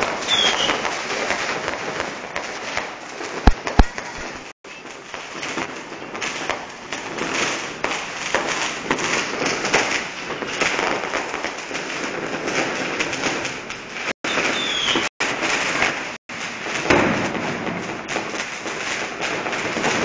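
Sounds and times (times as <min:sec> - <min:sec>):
fireworks crackling and hissing: 0:00.0 - 0:20.0
sharp firework bangs: 0:00.0 - 0:20.0.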